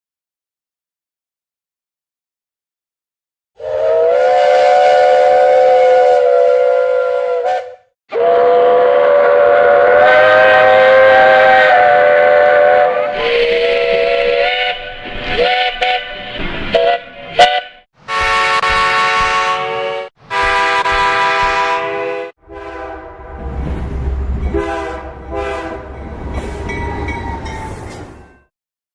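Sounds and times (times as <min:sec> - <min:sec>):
steam locomotive chime whistle: 0:03.6 - 0:23.6, 0:24.4 - 0:28.5.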